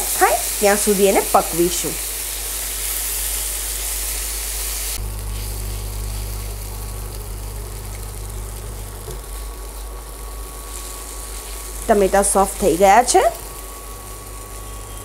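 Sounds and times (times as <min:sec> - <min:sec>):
food sizzling in oil: 0:00.0 - 0:15.0
steady low hum: 0:00.0 - 0:15.0.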